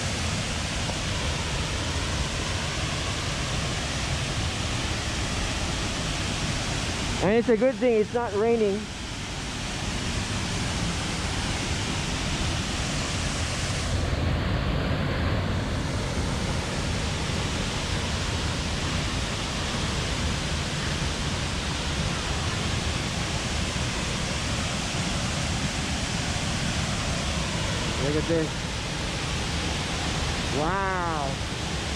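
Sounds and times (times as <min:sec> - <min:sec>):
waterfall roaring: 0:00.0 - 0:31.9.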